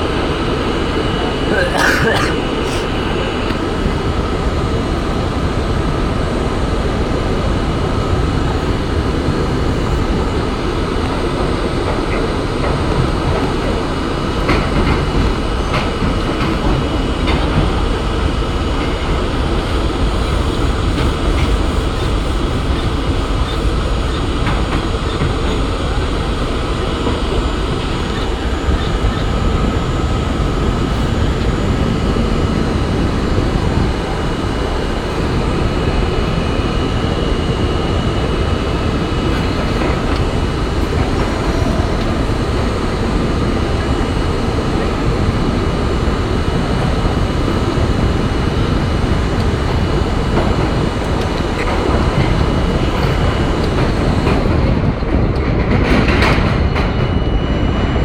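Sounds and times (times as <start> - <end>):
steady whine: 0.0 - 58.0
wheels rumbling on rail: 0.0 - 58.0.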